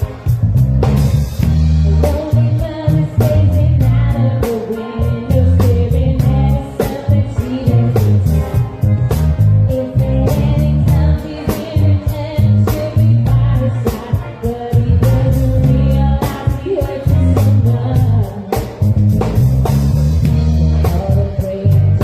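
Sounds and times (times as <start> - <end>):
heavy bass line: 0.0 - 14.2, 14.8 - 22.0
drum kit with hi-hat and cymbals: 0.0 - 22.0
guitar: 0.0 - 22.0
live band playing funk-pop: 0.0 - 22.0
person singing: 1.9 - 8.8, 9.6 - 18.8, 20.3 - 22.0.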